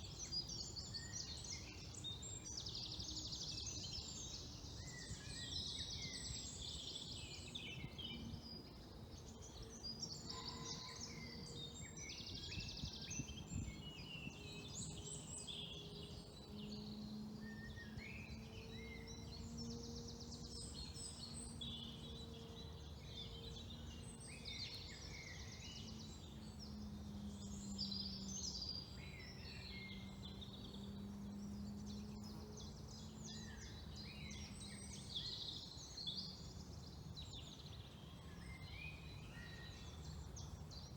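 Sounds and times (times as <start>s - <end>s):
faint low steady drone: 0.0s - 40.9s
songbirds singing and trilling: 0.0s - 40.9s.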